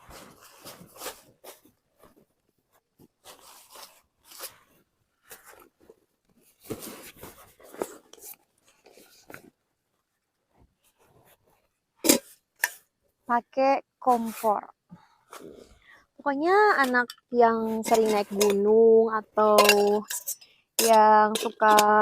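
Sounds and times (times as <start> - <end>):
camping gear rustling and crinkling: 0.0 - 13.2, 16.5 - 22.0.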